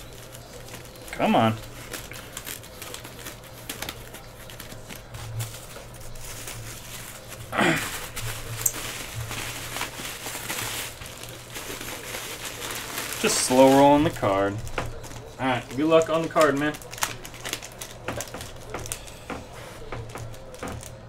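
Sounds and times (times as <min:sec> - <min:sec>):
plastic wrapper crinkling: 0:00.0 - 0:21.0.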